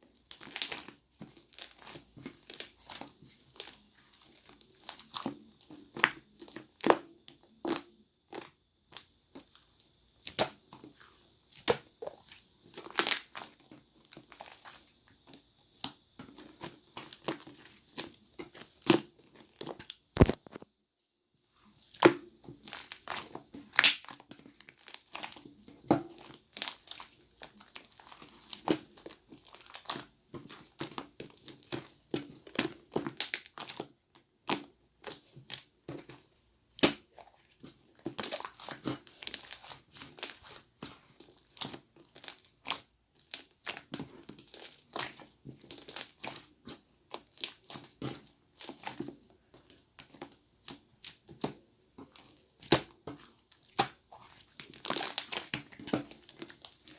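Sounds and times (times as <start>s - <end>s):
slime crackling and popping: 0.2s - 20.7s, 21.8s - 56.9s.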